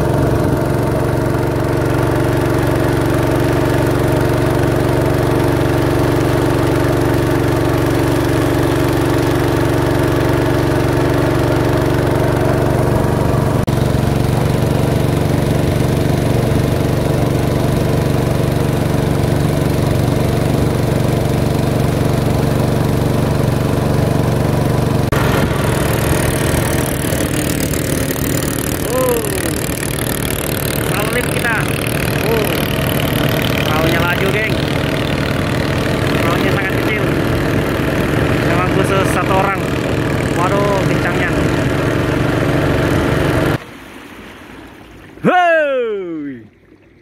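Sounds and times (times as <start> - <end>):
motorboat engine running: 0.0 - 47.0
wind: 0.0 - 47.0.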